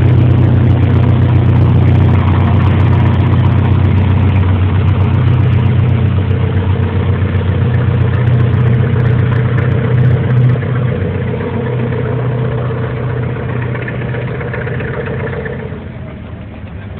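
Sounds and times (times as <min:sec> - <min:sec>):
diesel locomotive engine drone: 0:00.0 - 0:16.9.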